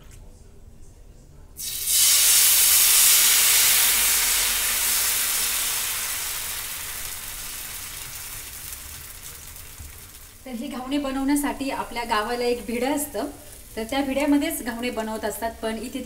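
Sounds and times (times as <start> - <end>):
batter sizzling on griddle: 1.6 - 16.0.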